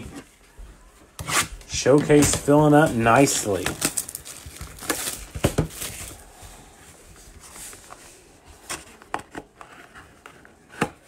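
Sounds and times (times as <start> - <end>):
cardboard and plastic handling: 1.2 - 11.0.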